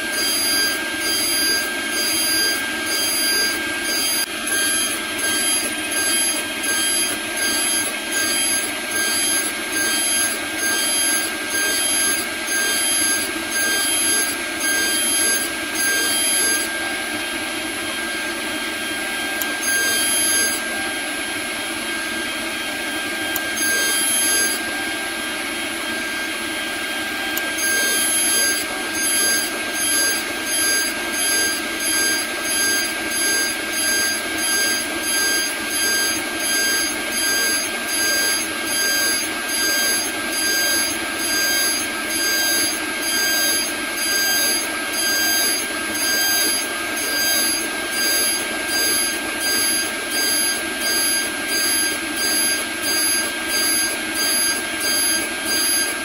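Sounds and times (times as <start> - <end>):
end mill cutting plastic: 0.0 - 56.0
router spindle whining: 0.0 - 56.0.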